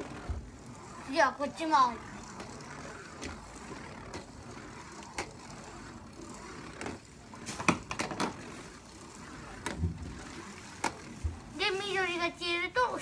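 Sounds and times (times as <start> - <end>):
spinning top whirring on plastic: 0.0 - 13.0.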